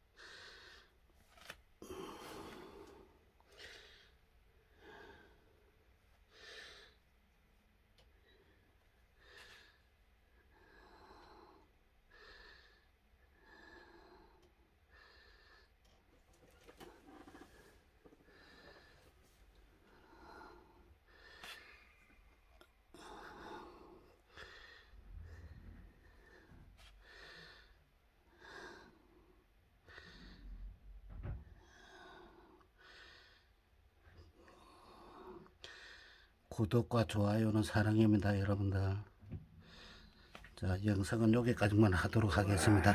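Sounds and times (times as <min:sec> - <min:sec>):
faint breathing: 0:00.1 - 0:01.0, 0:01.8 - 0:07.2, 0:08.0 - 0:36.5, 0:39.1 - 0:40.6, 0:41.8 - 0:42.9.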